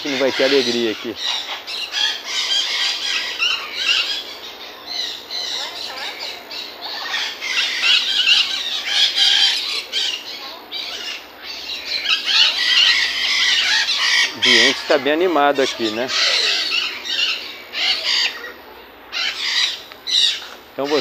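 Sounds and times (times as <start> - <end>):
parrots squawking and screeching: 0.0 - 21.0.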